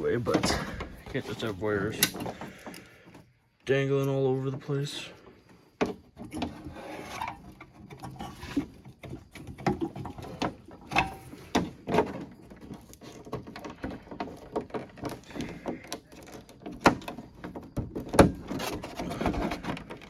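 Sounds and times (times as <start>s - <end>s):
clicks knocks and rattles of hand work: 0.0s - 20.0s.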